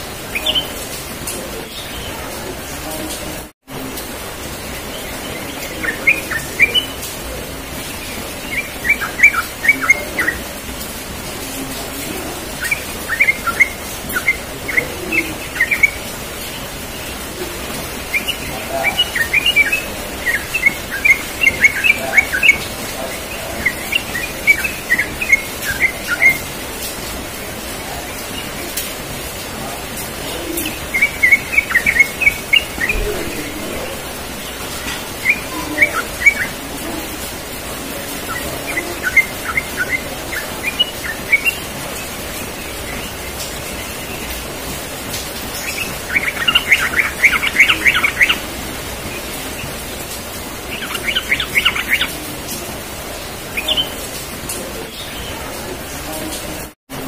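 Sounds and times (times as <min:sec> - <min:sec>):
bird singing rolling song: 0:00.0 - 0:56.6
background hiss: 0:00.0 - 0:57.0.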